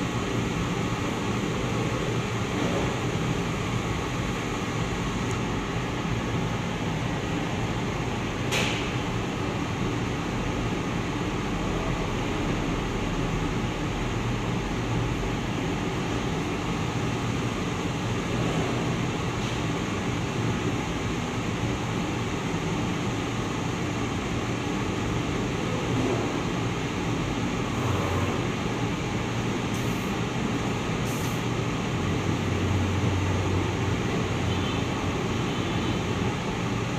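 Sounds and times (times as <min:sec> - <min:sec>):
printing machine humming and hissing: 0:00.0 - 0:36.9.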